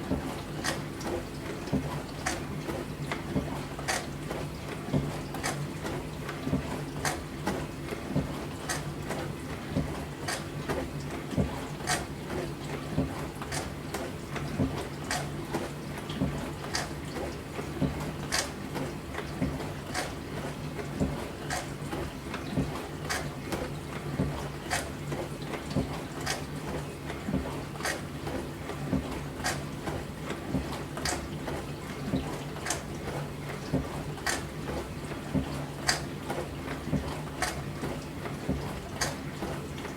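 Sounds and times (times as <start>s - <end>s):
dishwasher pump hum: 0.0s - 39.9s
water washing inside dishwasher: 0.0s - 39.9s.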